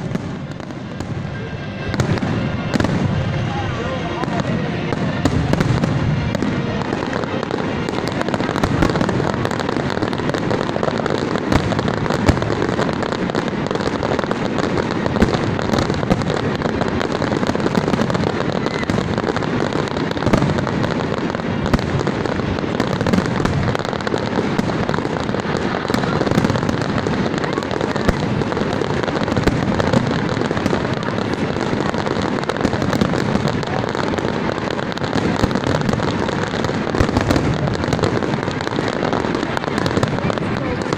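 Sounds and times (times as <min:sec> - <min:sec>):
fireworks crackle and rumble: 0:00.0 - 0:40.9
sharp firework bangs: 0:00.0 - 0:40.9.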